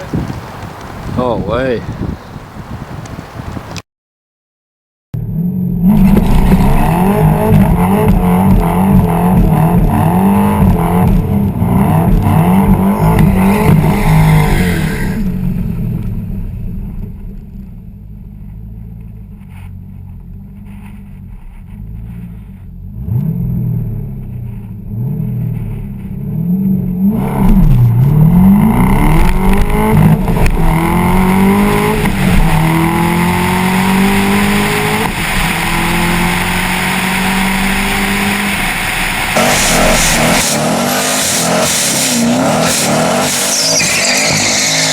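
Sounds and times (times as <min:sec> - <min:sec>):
car engine revving: 0:05.2 - 0:44.9.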